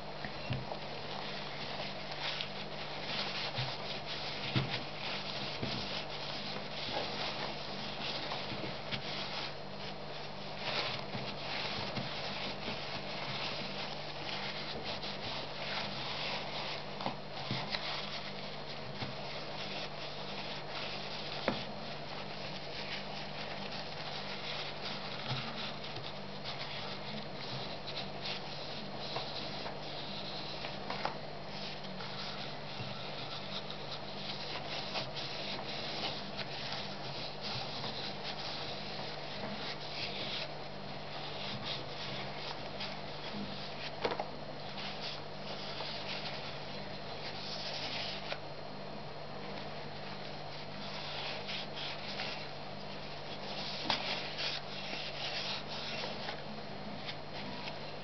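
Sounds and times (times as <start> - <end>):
steady low hum: 0.0 - 58.0
tissue rubbing on metal: 0.8 - 44.0, 44.6 - 48.4, 49.7 - 58.0.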